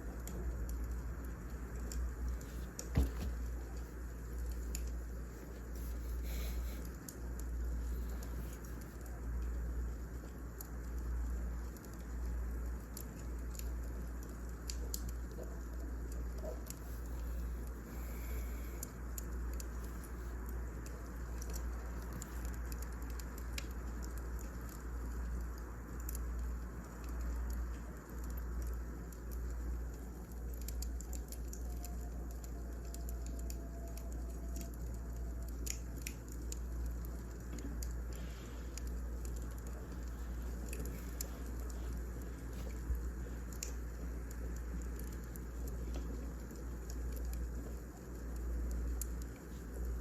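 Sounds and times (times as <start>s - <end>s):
firewood crackling: 0.0s - 50.0s.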